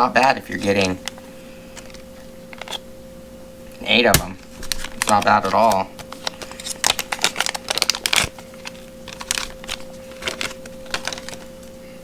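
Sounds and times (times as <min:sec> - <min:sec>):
faint steady hum: 0:00.0 - 0:12.0
plastic bags crinkling: 0:00.5 - 0:02.8, 0:04.1 - 0:12.0.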